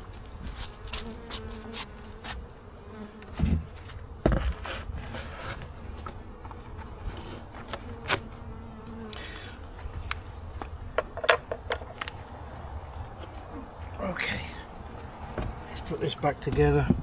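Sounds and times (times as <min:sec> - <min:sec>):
bees buzzing: 0:00.4 - 0:16.2.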